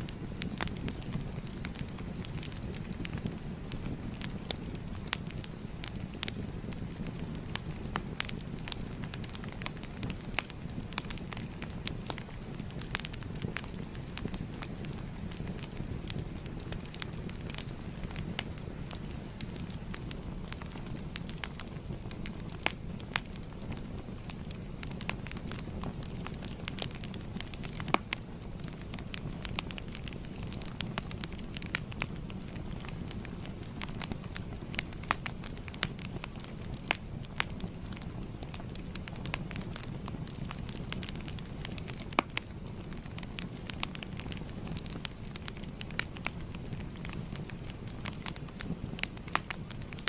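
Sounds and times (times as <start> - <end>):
fire pops and snaps: 0.0 - 50.0
wood fire crackling: 0.0 - 50.0.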